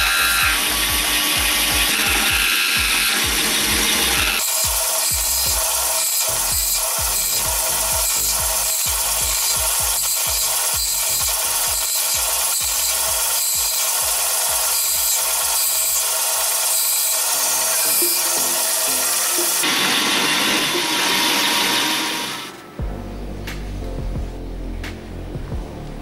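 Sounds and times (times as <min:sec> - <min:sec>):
saw cutting wooden strip: 0:00.0 - 0:22.7
band saw running: 0:00.0 - 0:22.8.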